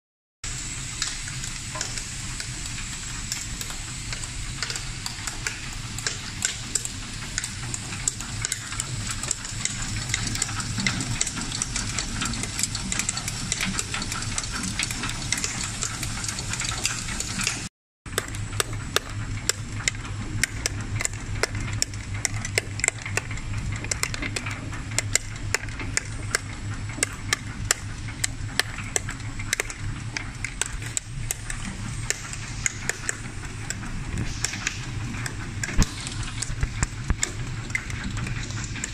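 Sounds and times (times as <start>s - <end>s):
motor hum and high whine: 0.4s - 38.9s
rapid clatter of sharp clicks: 0.5s - 38.9s.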